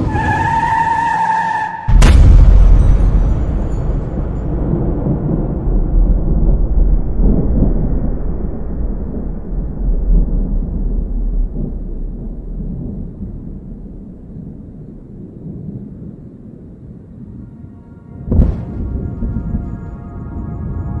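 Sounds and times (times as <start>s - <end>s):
deep steady rumble: 1.9s - 21.0s.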